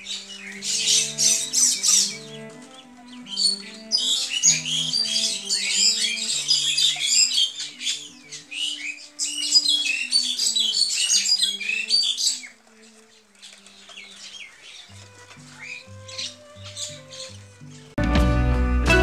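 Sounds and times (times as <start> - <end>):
small birds chirping: 0.0 - 18.0
music of slow held notes: 0.0 - 19.0.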